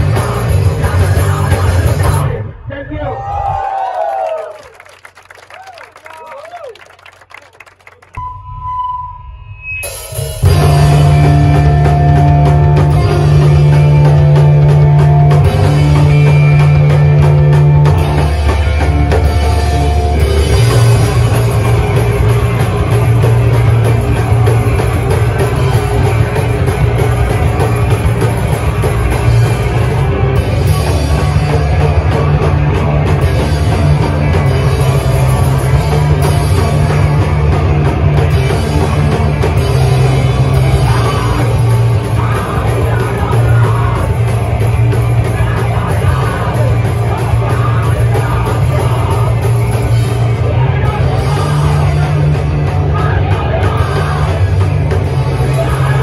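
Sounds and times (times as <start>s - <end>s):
drum kit: 0.0s - 2.4s, 9.6s - 56.0s
electric guitars: 0.0s - 2.4s, 10.4s - 56.0s
electric bass: 0.0s - 3.7s, 9.9s - 56.0s.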